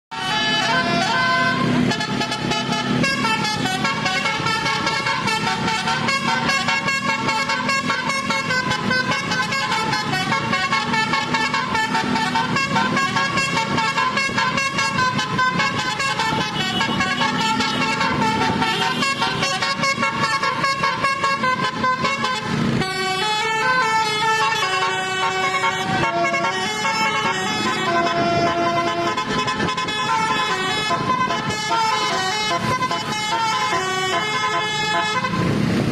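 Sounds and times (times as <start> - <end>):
bus air horn playing a melody: 0.1 - 35.6.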